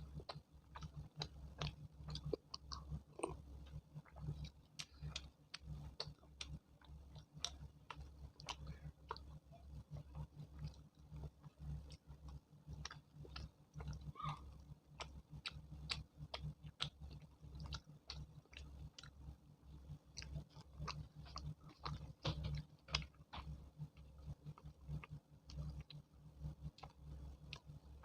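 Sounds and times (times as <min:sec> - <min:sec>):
chewing mouth clicks: 0:00.0 - 0:28.0
steady low hum: 0:00.0 - 0:28.0.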